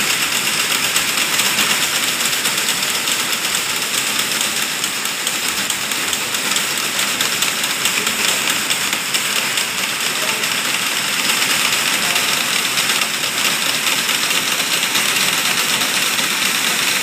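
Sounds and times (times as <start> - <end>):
knitting machines clattering: 0.0 - 17.0.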